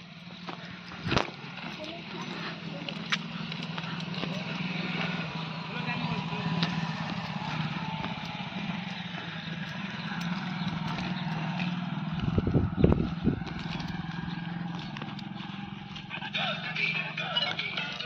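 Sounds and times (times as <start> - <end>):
engine humming steadily: 0.0 - 18.0.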